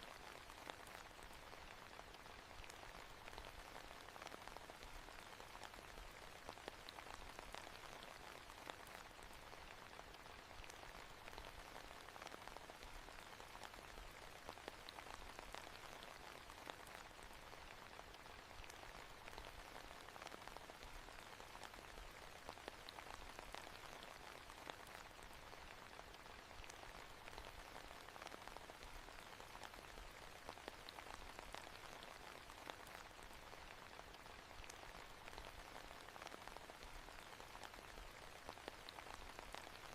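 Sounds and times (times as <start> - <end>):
soft steady rain: 0.0 - 39.9.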